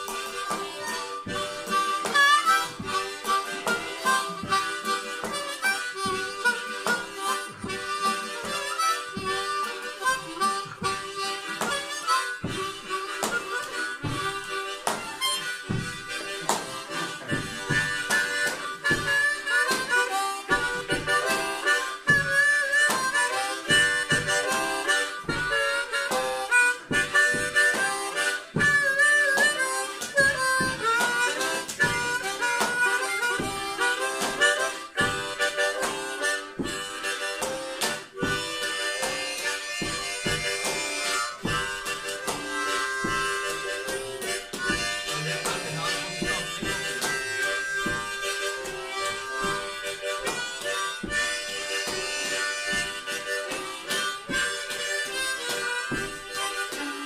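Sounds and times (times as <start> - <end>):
harmonica playing blues: 0.0 - 57.0.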